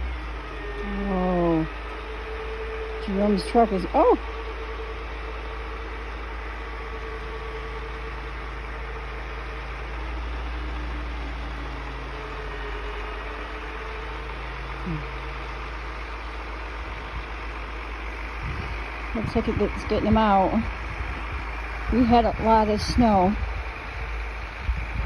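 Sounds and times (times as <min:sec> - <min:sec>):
truck engines idling: 0:00.0 - 0:25.0.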